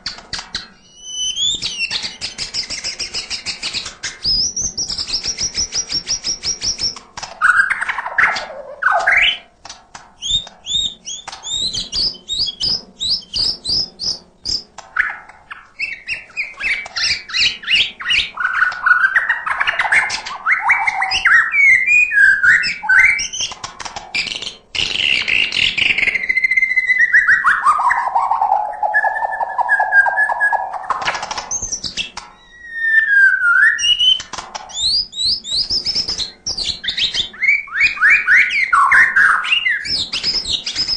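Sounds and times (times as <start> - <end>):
bird singing varied song: 0.0 - 9.5, 10.2 - 40.9.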